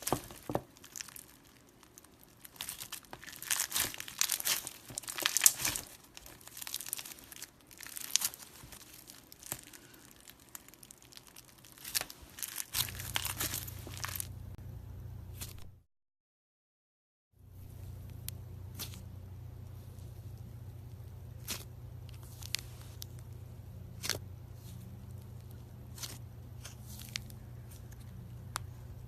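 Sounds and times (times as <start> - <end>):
slime crackling and crinkling: 0.0 - 14.5, 18.7 - 19.1, 19.7 - 29.0
low steady hum: 0.0 - 15.8, 17.4 - 29.0.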